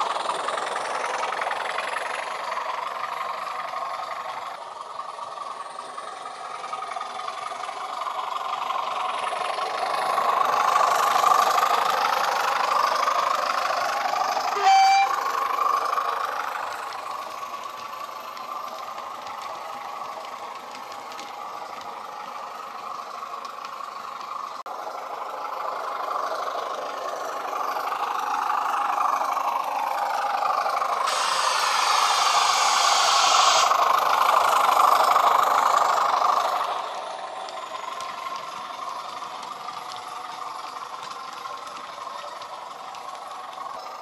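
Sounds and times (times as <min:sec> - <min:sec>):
hiss: 0:00.0 - 0:44.0
model diesel engine sound: 0:00.0 - 0:44.0.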